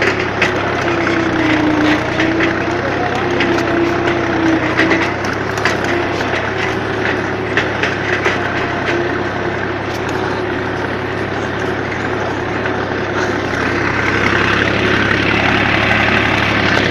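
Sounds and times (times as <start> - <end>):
clods striking tiller: 0.0 - 16.9
rotary tiller churning soil: 0.0 - 16.9
tractor engine running: 0.0 - 16.9.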